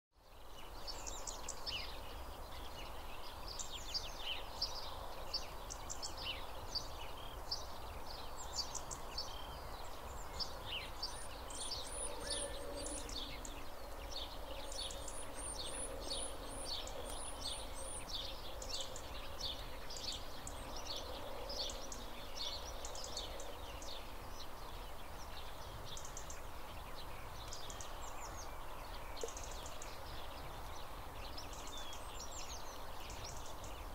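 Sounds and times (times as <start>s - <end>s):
birds chirping: 0.3s - 33.9s.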